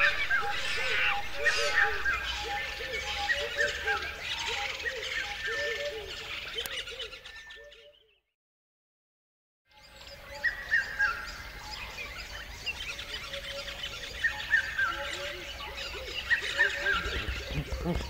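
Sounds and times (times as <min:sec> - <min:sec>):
many birds calling: 0:00.0 - 0:08.2, 0:09.7 - 0:18.0.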